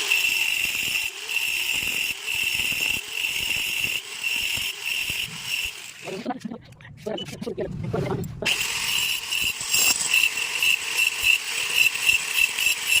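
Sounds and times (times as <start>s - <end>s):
mixer motor whining: 0.0s - 6.4s, 8.3s - 13.0s.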